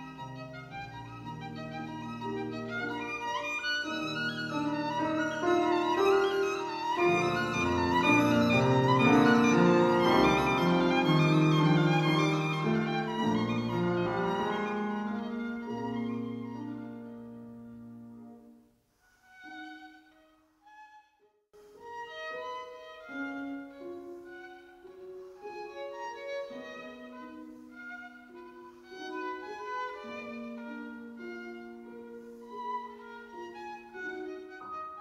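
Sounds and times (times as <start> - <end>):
classical violin music: 0.0 - 35.0.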